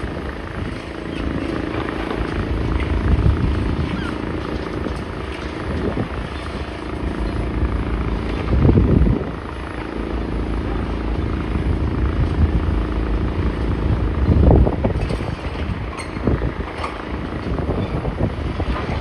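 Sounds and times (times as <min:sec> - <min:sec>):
heavy demolition machinery running: 0:00.0 - 0:19.0
wind buffeting microphone: 0:00.0 - 0:19.0.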